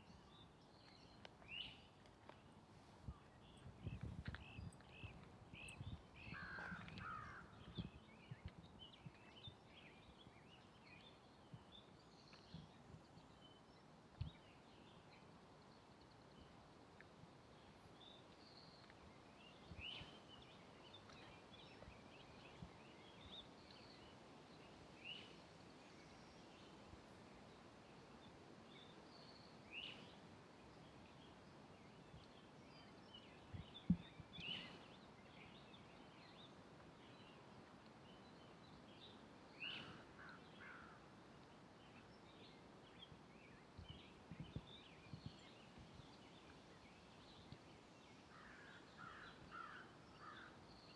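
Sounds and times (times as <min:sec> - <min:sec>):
small birds chirping: 0:00.0 - 0:26.8, 0:28.7 - 0:50.9.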